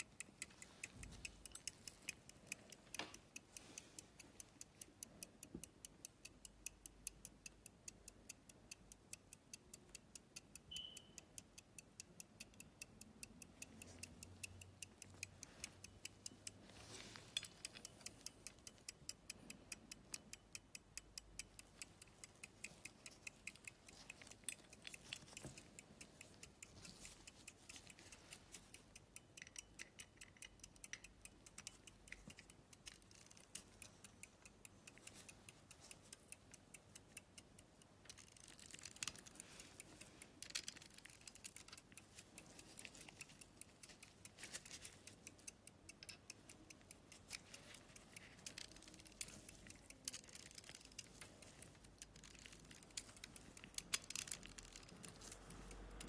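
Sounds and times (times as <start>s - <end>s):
watch key clicking and rubbing: 0.0s - 11.0s, 11.6s - 56.0s
pocket watch ticking: 0.0s - 56.0s.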